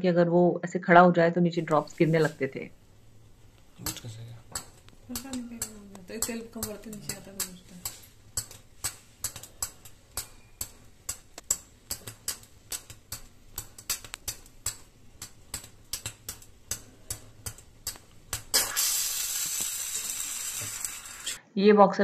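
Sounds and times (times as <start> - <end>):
burning bundle crackling and popping: 1.6 - 21.4
loud steady hiss: 1.6 - 21.4.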